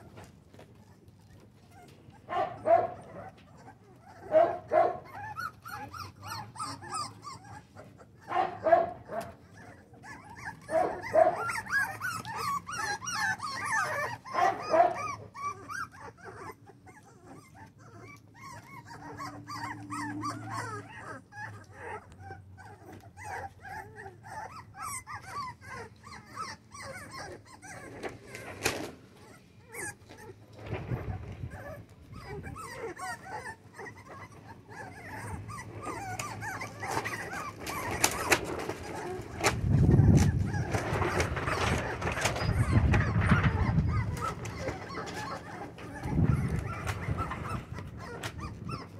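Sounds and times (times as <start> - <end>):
puppies whining and yipping: 0.0 - 48.9
puppy yelps: 0.0 - 48.9.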